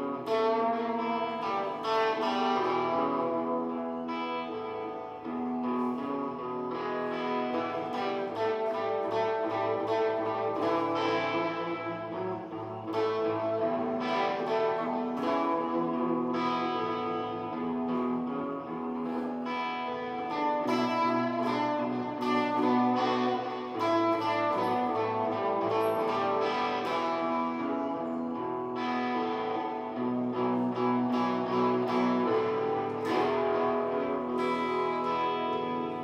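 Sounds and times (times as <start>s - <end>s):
electric guitar blues line: 0.0s - 36.0s
held backing chords: 0.0s - 36.0s.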